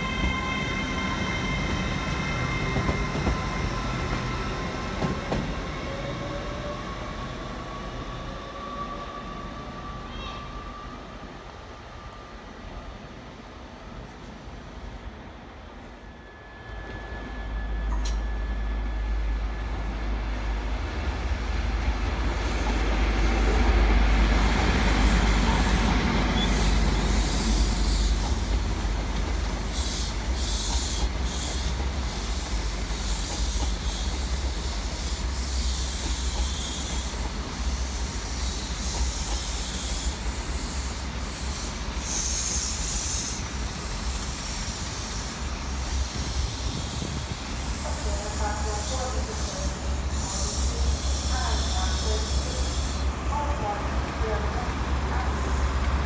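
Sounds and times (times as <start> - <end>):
diesel train passing: 0.0 - 56.0
train coaches rumbling: 0.0 - 56.0.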